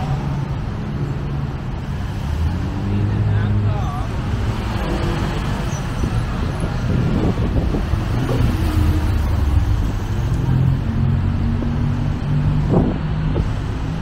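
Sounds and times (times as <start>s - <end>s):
road traffic: 0.0s - 14.0s
vehicle engines humming: 0.0s - 14.0s.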